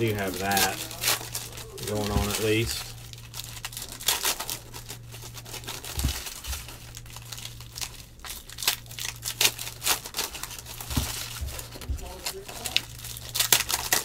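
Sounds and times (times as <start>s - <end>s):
foil wrappers crinkling: 0.0s - 14.0s
steady low hum: 0.0s - 14.0s.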